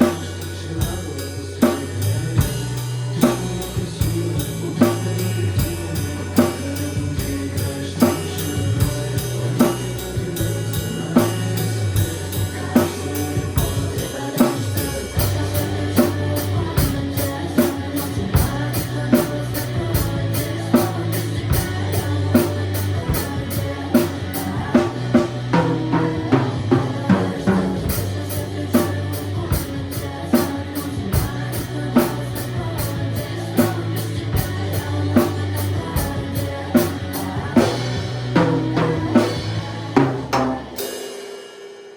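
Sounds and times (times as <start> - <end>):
rock song with singing and guitar: 0.0 - 41.5
drum kit playing: 0.0 - 41.9.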